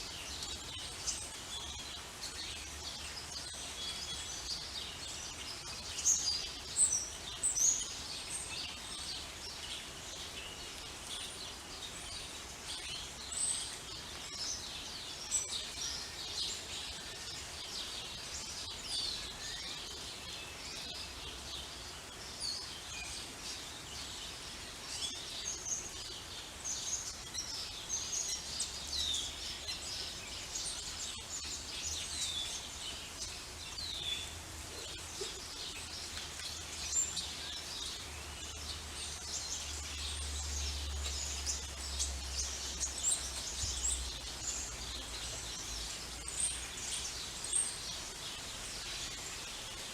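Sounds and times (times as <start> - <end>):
light rain falling: 0.0 - 49.9
songbirds chirping and singing: 0.0 - 49.9.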